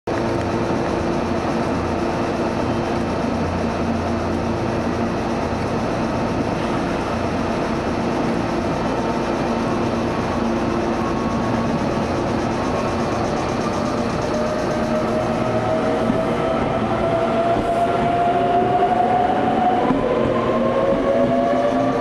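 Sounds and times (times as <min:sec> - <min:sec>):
electric train equipment hum: 0:00.1 - 0:22.0
train pulling away: 0:00.2 - 0:22.0.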